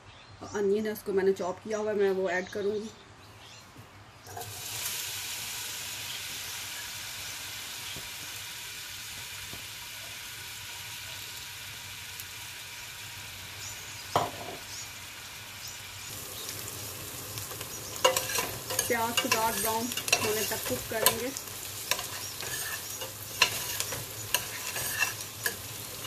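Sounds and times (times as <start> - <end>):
onion sizzling in hot oil: 4.2 - 26.0.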